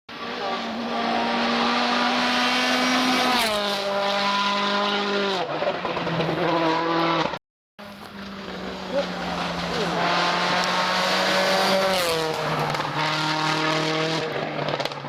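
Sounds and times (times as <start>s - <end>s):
rally car engine at high revs: 0.1s - 15.0s.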